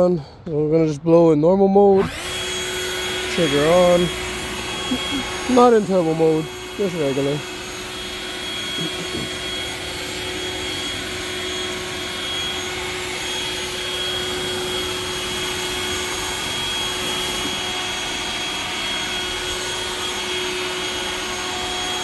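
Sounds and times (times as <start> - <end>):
leaf blower air rush: 1.8 - 22.0
motor whine: 1.9 - 22.0.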